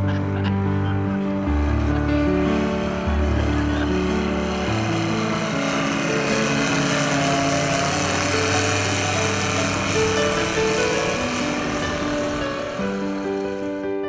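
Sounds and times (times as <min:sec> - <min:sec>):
background music with held chords: 0:00.0 - 0:14.0
propeller plane engine drone: 0:00.0 - 0:14.0.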